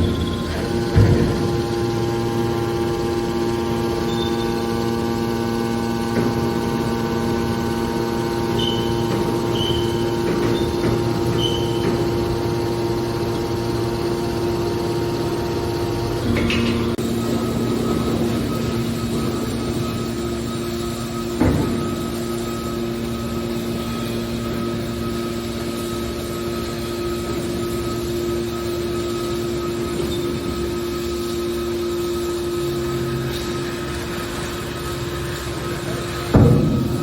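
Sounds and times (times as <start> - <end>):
hydraulic power unit hum: 0.0 - 37.0.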